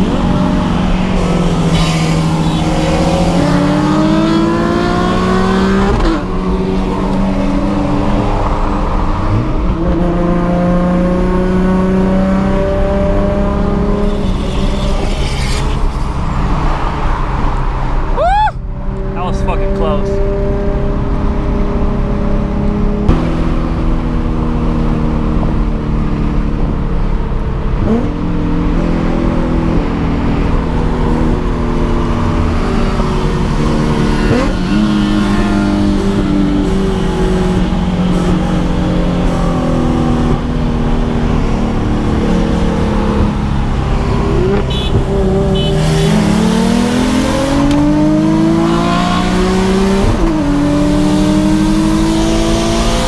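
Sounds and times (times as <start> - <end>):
car engine accelerating: 0.0 - 14.4, 15.0 - 53.0.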